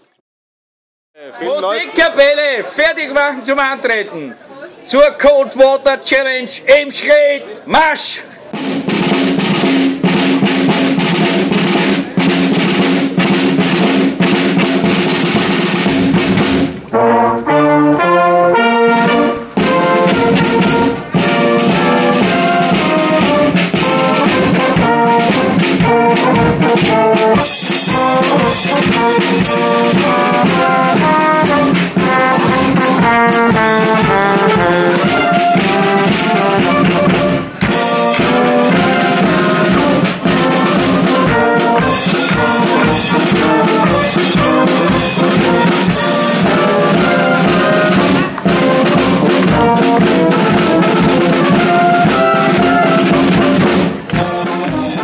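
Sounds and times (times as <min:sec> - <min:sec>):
brass band playing: 0:08.5 - 0:55.0
drumming: 0:08.5 - 0:55.0.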